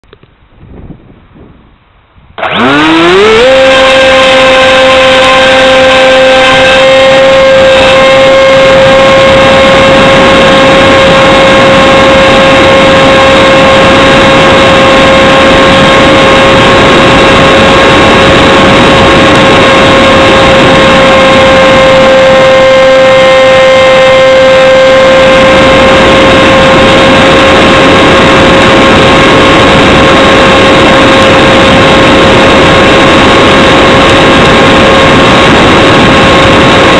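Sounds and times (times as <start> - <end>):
electric motor and propeller whine: 0.0 - 36.9
wind rushing: 0.4 - 3.7, 7.2 - 23.4, 24.4 - 36.9.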